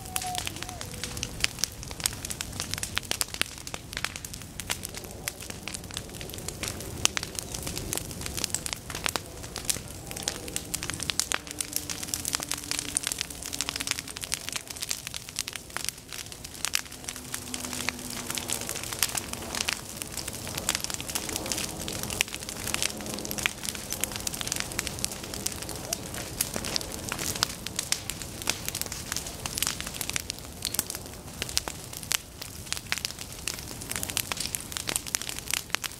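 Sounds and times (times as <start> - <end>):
grass fire crackling and popping: 0.0 - 35.9
low rush of fire: 0.0 - 35.9.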